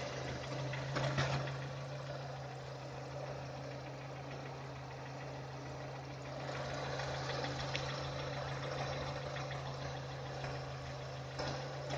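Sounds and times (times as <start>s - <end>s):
car engine idling with knock: 0.0s - 11.9s.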